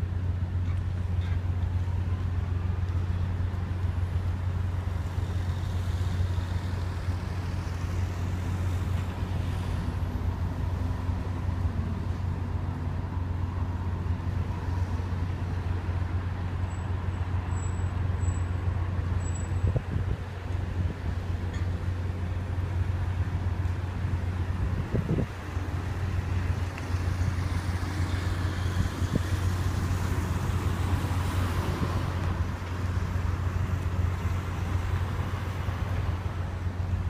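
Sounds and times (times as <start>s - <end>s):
ferry diesel engine drone: 0.0s - 37.0s.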